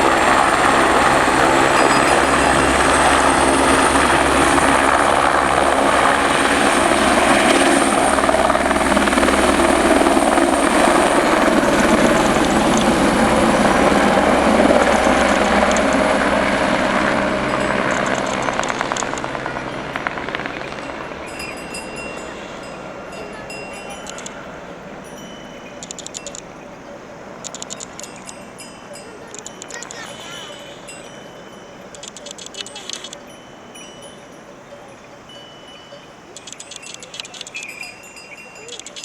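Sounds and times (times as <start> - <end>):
helicopter rotor and engine: 0.0 - 39.0.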